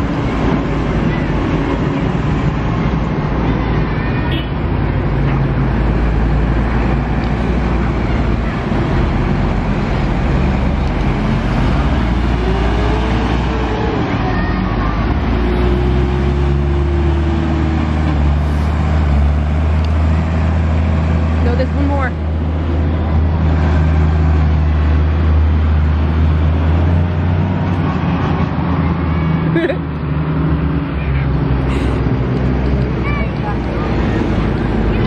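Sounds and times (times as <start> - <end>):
tractor diesel engines passing: 0.0 - 35.0.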